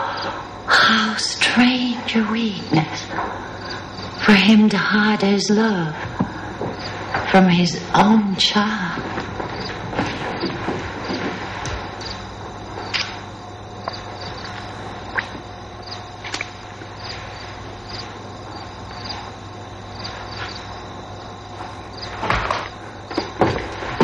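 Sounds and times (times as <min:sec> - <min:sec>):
crickets chirping: 0:00.0 - 0:24.0
low steady hum: 0:00.0 - 0:24.0.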